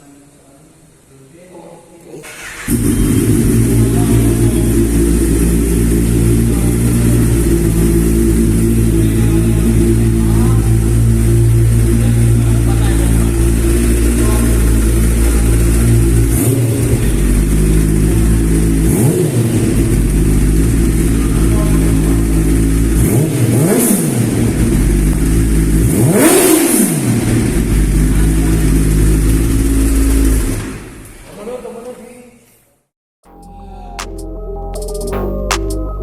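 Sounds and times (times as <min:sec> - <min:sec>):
motorcycle engine idling and revving: 0:02.4 - 0:31.2.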